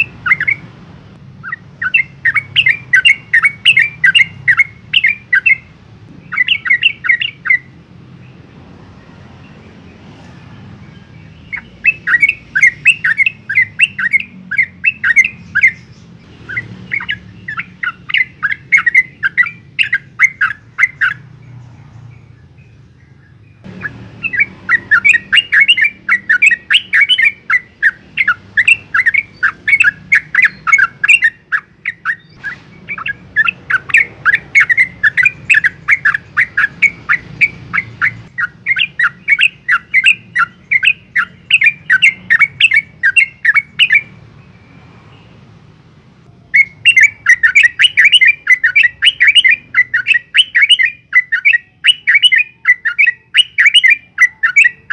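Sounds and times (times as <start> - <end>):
bird chattering song: 0.0 - 45.4, 46.3 - 54.9.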